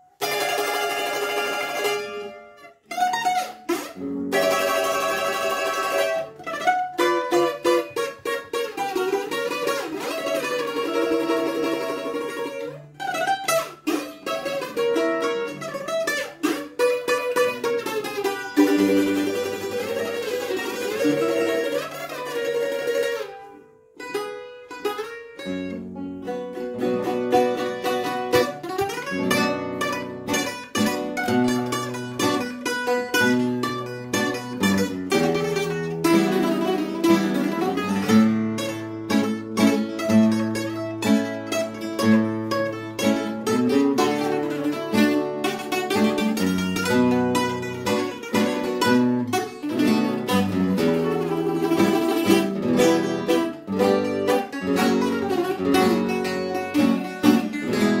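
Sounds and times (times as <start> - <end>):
acoustic guitar: 0.0 - 58.0
bouzouki plucked melody: 0.0 - 58.0.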